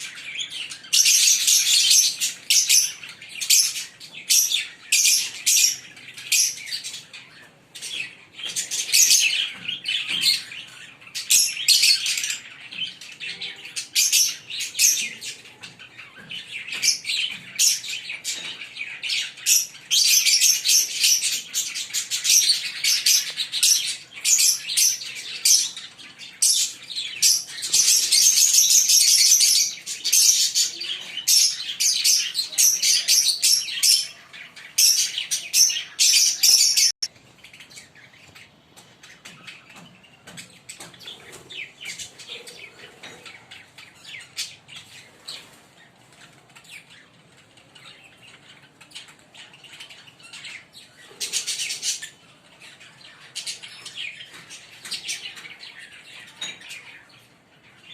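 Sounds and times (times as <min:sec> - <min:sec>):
lovebirds chirping: 0:00.0 - 0:57.9.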